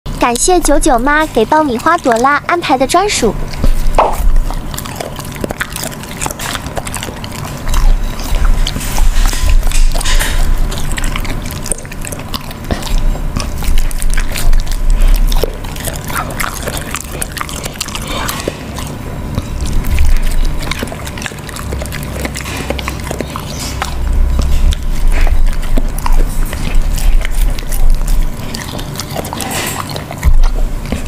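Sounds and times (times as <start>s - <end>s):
dog chewing and licking meat: 0.1s - 31.0s.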